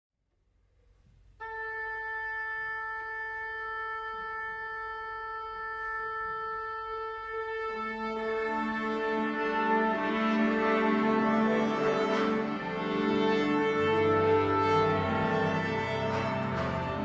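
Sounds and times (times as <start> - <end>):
lower instruments playing: 1.4 - 17.0
wind instrument long note: 1.4 - 17.0.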